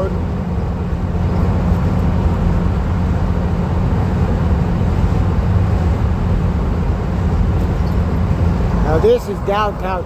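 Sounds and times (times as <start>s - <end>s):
van road and engine rumble: 0.0s - 10.0s.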